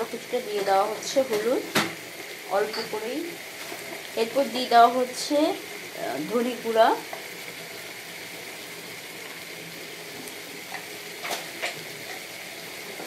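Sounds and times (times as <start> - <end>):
potatoes sizzling in frying pan: 0.0 - 13.0.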